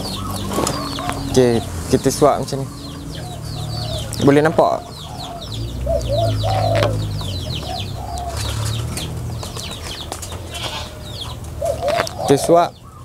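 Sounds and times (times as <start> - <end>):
lower bird calls: 0.0 - 13.0
small birds chirping: 0.0 - 13.0.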